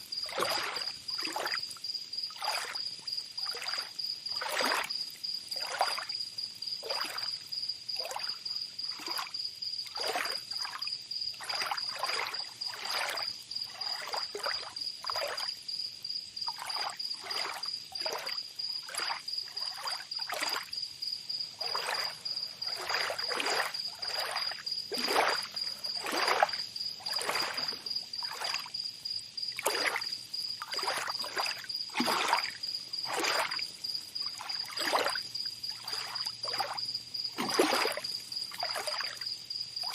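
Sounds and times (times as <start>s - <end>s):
small waves splashing: 0.0s - 6.1s, 6.8s - 7.4s, 8.0s - 15.6s, 16.5s - 20.7s, 21.4s - 28.8s, 29.5s - 39.9s.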